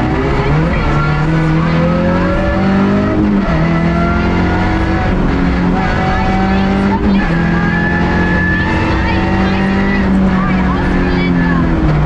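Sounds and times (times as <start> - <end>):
car engine accelerating through gears: 0.0 - 12.0.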